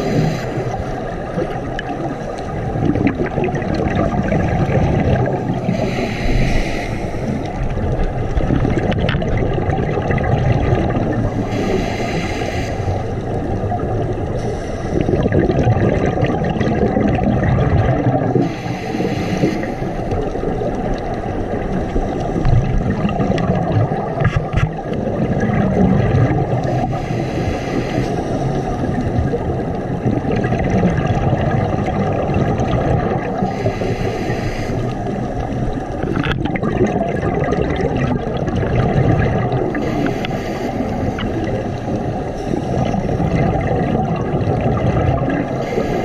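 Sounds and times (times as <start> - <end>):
exhaled bubbles gurgling underwater: 0.0 - 46.0
muffled rumble of water: 0.0 - 46.0.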